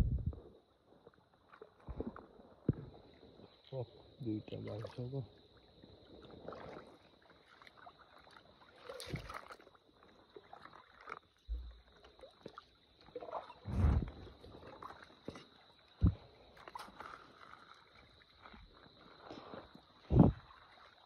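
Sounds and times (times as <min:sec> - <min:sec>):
splashing in shallow water: 0:00.0 - 0:21.0.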